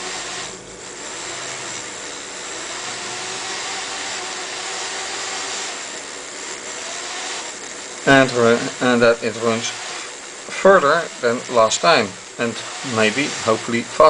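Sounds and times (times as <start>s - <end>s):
small electric motor whirring: 0.0s - 14.0s.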